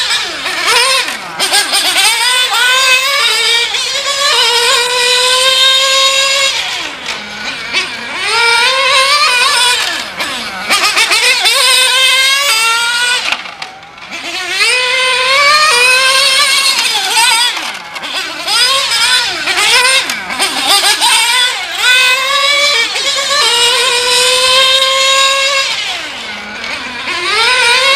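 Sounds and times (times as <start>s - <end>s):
rc car engine revving: 0.0s - 27.9s.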